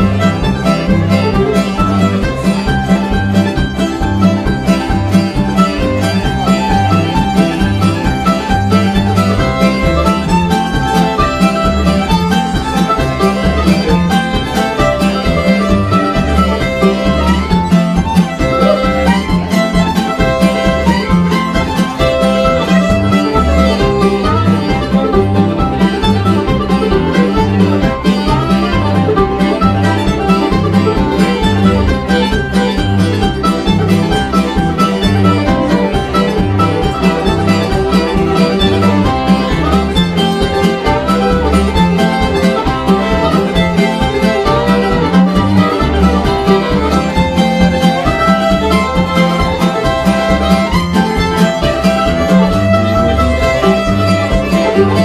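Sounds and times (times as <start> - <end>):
string band playing fiddle tune: 0.0 - 55.0.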